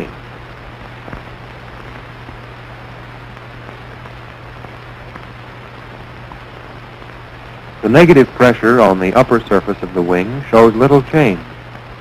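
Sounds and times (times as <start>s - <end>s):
faint crackles: 0.0s - 12.0s
low mains hum: 0.0s - 12.0s
steady hiss: 0.0s - 12.0s.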